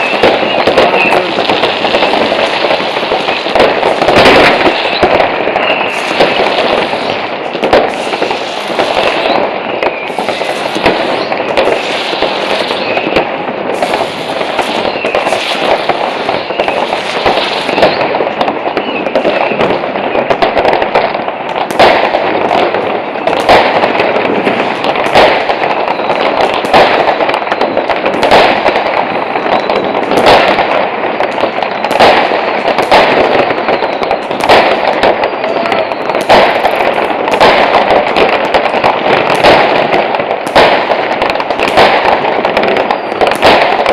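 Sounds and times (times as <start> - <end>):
fireworks crackling: 0.0 - 43.9
loud firecracker bangs: 0.0 - 43.9.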